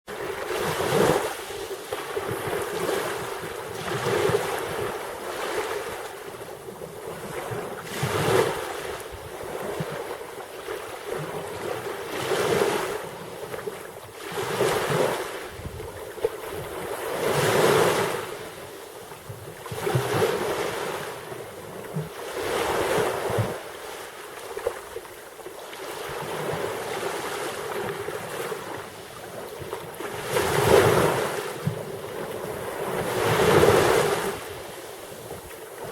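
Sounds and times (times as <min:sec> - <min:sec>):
sea waves surging: 0:00.1 - 0:35.9.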